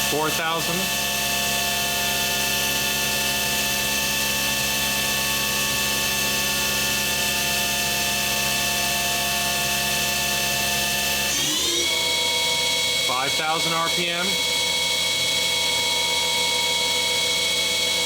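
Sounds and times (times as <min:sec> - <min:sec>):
machine spindle whine: 0:00.0 - 0:18.0.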